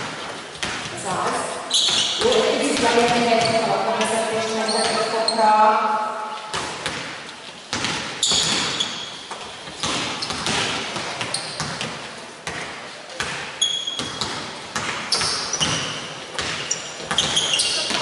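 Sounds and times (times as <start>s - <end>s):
basketballs bouncing on hardwood: 0.0s - 5.2s, 6.5s - 18.0s
sneakers squeaking on floor: 0.0s - 18.0s.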